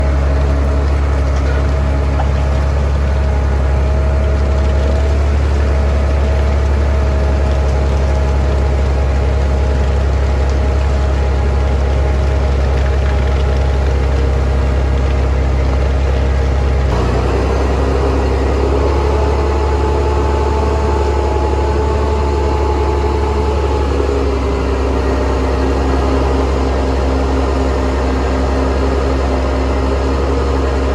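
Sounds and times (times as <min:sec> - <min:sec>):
heavy truck engine droning: 0:00.0 - 0:30.9.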